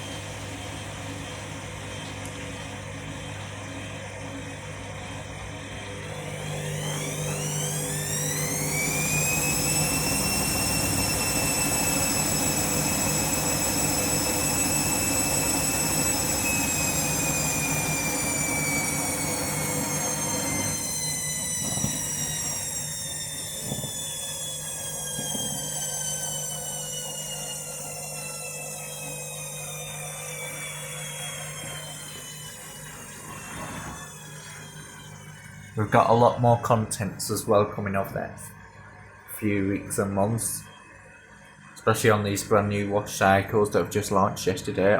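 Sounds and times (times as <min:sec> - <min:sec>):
washing machine drum motor whining: 0:00.0 - 0:44.9.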